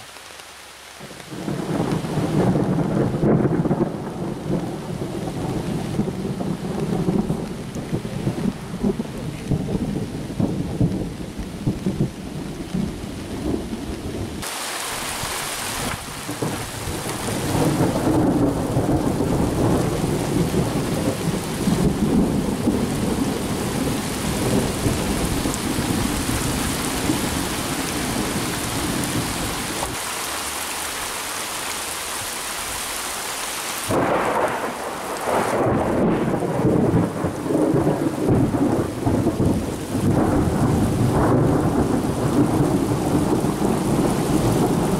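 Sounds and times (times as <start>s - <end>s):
rain falling: 0.0s - 44.9s
thunder rumbling: 1.0s - 30.7s, 33.8s - 44.9s.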